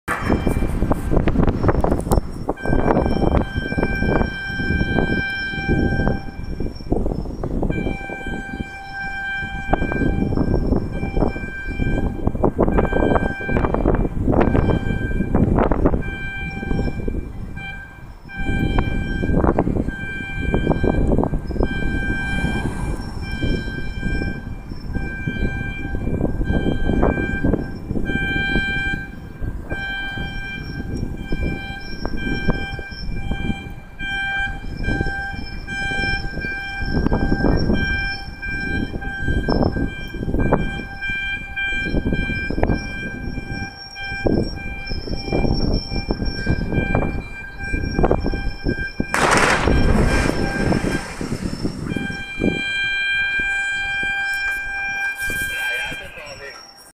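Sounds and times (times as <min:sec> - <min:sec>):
wind buffeting microphone: 0:00.1 - 0:56.5
warning siren steady tone: 0:00.1 - 0:56.9.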